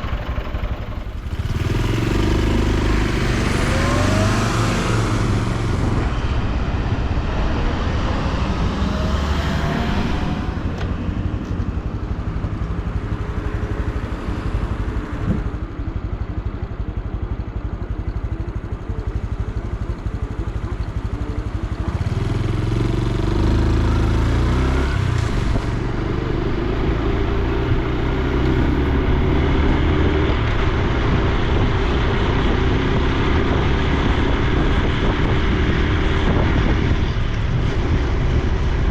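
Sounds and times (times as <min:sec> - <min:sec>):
motorcycle engine and exhaust: 0:00.0 - 0:38.9
road and wind noise: 0:00.0 - 0:38.9.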